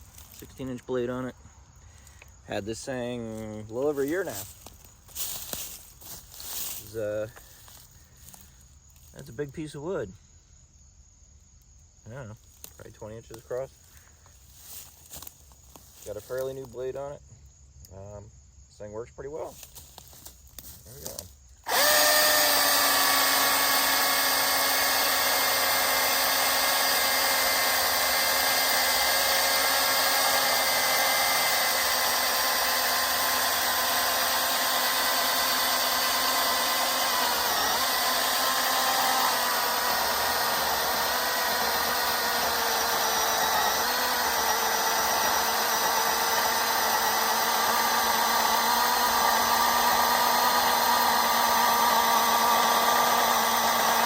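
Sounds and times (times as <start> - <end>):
chainsaw cutting log: 2.0 - 9.3, 12.5 - 17.0, 19.5 - 54.0.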